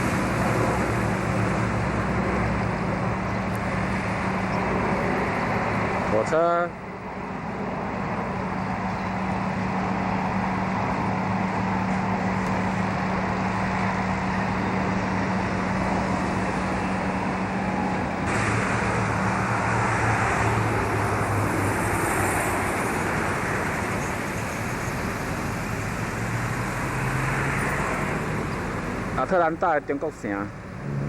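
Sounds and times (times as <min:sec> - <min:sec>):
low engine hum: 0:00.0 - 0:31.0
vehicle road noise: 0:00.0 - 0:31.0.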